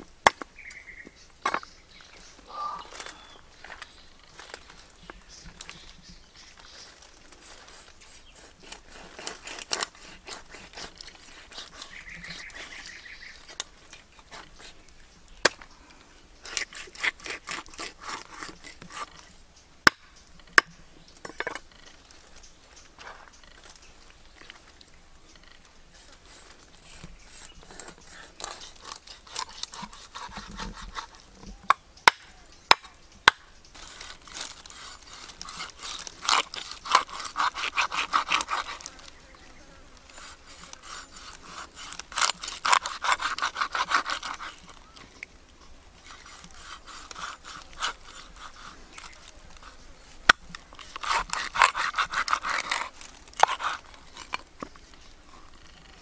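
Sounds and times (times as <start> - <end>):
cleaver scraping fish scales: 1.5 - 15.0, 16.4 - 19.4, 21.3 - 31.5, 33.7 - 56.0.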